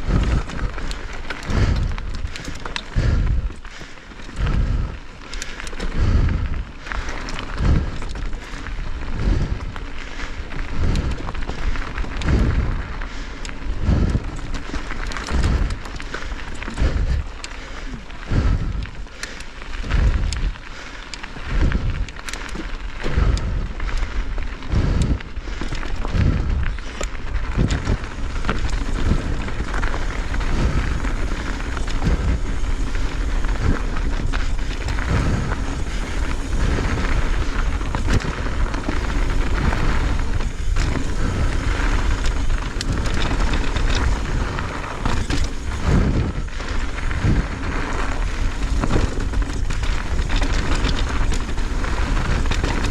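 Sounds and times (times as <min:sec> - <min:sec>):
bike tyres on dirt: 0:00.0 - 0:52.9
wind rumbling on microphone: 0:00.0 - 0:52.9.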